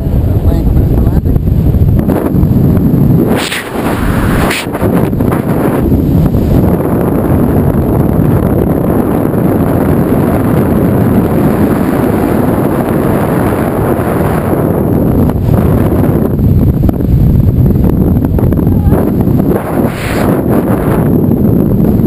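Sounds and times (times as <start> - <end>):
freefall wind buffeting microphone: 0.0 - 22.0.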